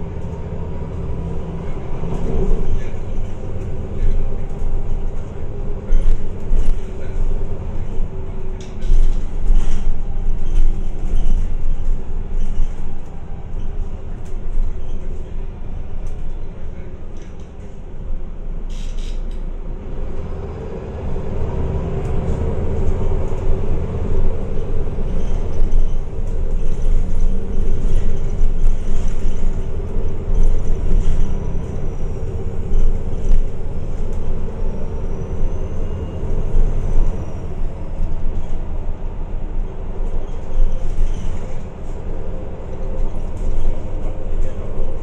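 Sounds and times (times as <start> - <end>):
bus diesel engine drone: 0.0 - 45.0
road rumble: 0.0 - 45.0.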